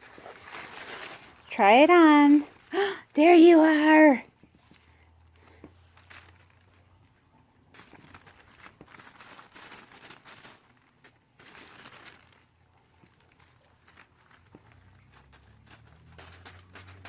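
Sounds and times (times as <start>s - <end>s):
tissue paper rustling: 0.0s - 17.0s.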